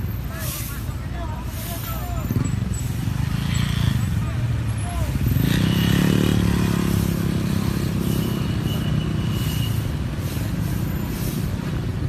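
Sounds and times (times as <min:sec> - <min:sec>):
street din: 0:00.0 - 0:12.0.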